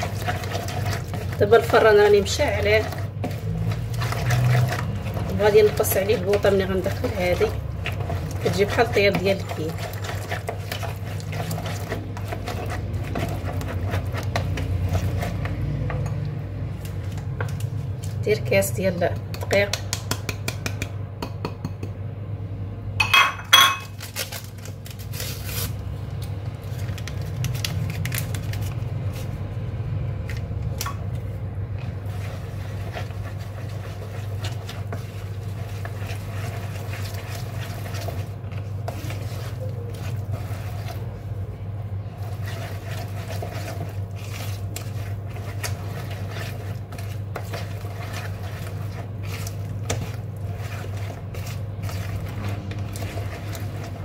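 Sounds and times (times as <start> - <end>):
batter scraping and squishing: 0.0 - 20.8, 23.5 - 54.0.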